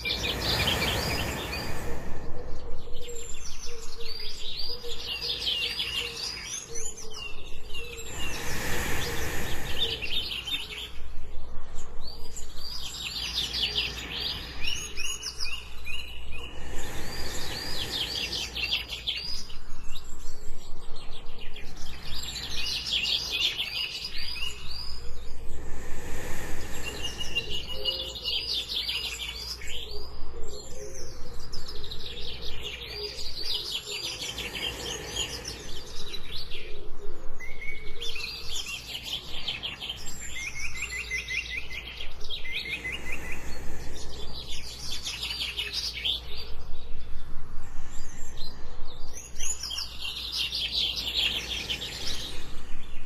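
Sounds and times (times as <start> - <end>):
bird chirping: 0.0 - 53.0
soft breaths: 0.0 - 53.0.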